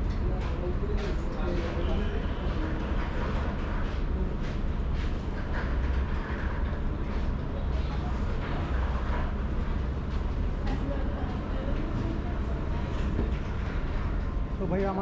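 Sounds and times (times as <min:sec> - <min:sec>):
restaurant rumble and hum: 0:00.0 - 0:15.0.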